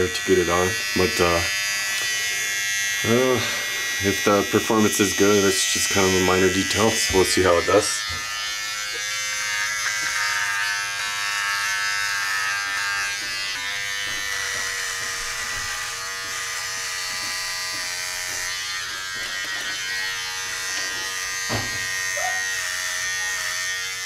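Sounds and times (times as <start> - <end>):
hair trimmer buzzing: 0.0 - 24.0.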